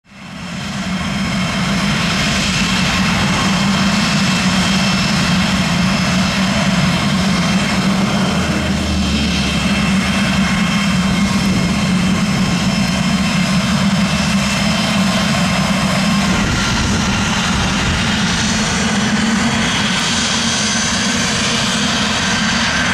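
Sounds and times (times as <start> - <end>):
jet engine whining: 0.1 - 22.9.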